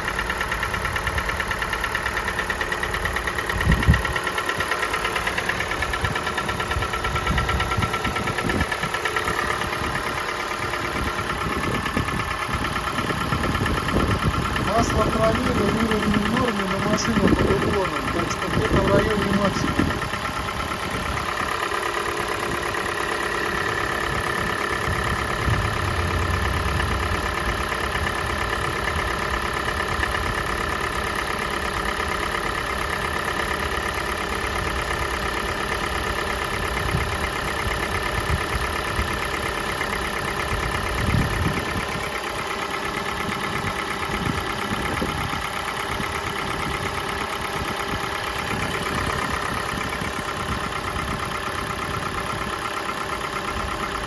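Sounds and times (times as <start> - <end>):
car engine idling: 0.0 - 54.0
engine ticking: 0.0 - 54.0.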